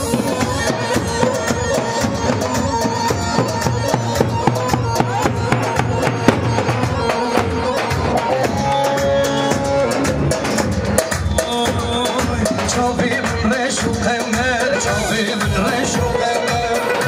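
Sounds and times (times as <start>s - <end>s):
fast drum beat: 0.0s - 17.0s
held melody line: 0.0s - 17.0s.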